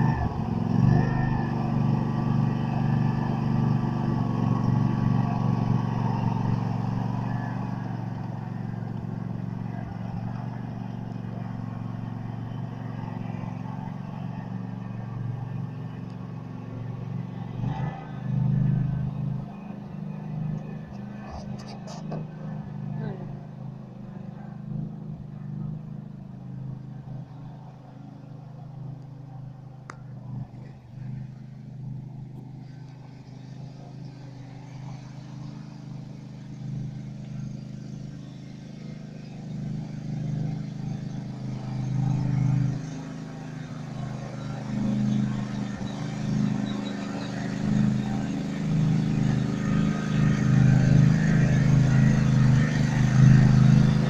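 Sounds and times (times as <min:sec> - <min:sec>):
garden tractor engine running: 0:00.0 - 0:27.6, 0:28.3 - 0:54.0.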